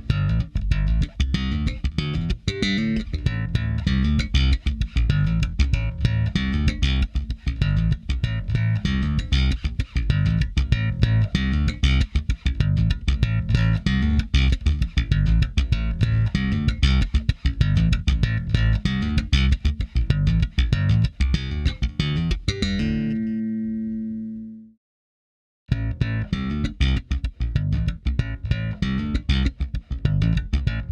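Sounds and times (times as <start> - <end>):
electric bass guitar playing: 0.0 - 24.7, 25.7 - 30.9.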